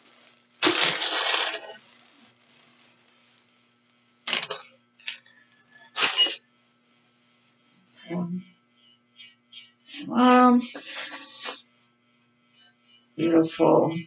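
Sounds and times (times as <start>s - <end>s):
ceiling fan hum: 0.0s - 14.0s.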